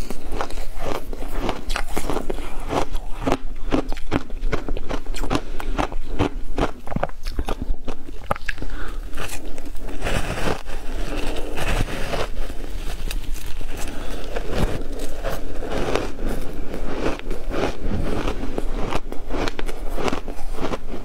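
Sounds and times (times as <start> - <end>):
crunching ice: 0.0 - 21.0.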